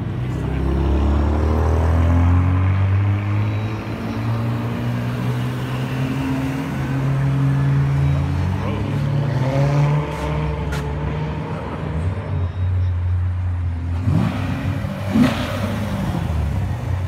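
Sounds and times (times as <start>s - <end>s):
sports car engines pulling away: 0.1s - 12.4s, 13.7s - 17.0s.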